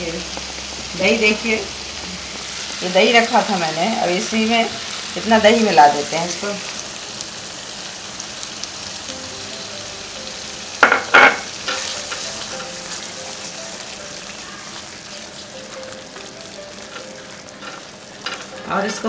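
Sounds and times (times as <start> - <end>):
masala sizzling in oil: 0.0 - 19.0.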